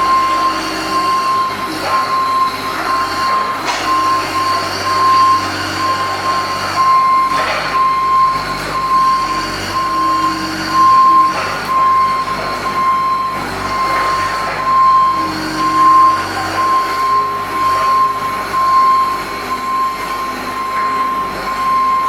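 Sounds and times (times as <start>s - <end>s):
mini excavator engine running: 0.0s - 22.0s.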